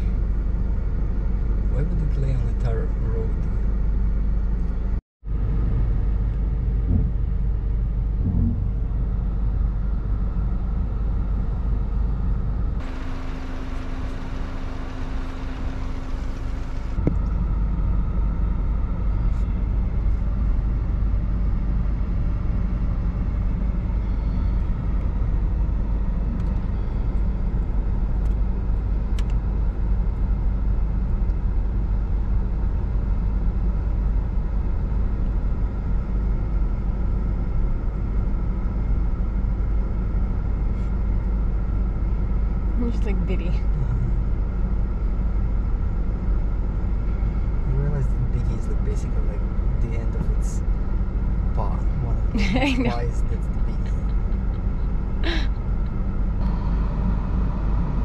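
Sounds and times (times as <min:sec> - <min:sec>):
car engine rumble from cabin: 0:00.0 - 0:58.0.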